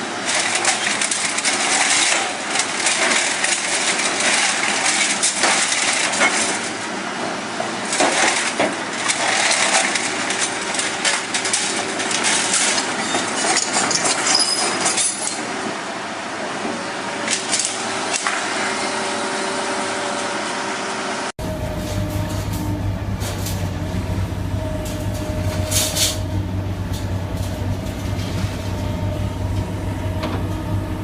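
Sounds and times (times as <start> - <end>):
machinery crushing a scrap car: 0.0 - 15.8, 16.6 - 19.0, 21.4 - 31.0.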